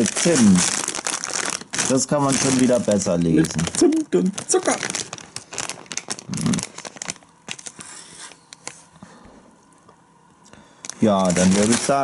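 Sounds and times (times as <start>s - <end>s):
snack bag crinkling: 0.0s - 8.9s, 10.8s - 12.0s.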